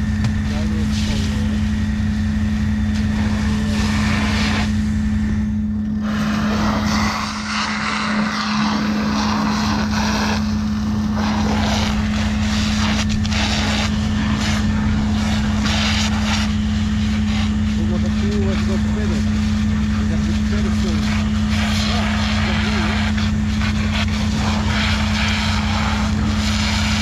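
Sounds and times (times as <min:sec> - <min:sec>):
engine and water pump droning: 0:00.0 - 0:27.0.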